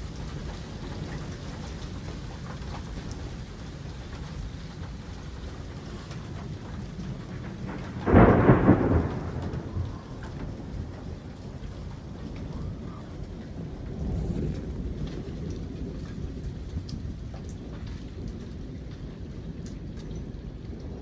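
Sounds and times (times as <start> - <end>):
steady rain falling: 0.0 - 21.0
thunderclap rumbling: 0.0 - 21.0.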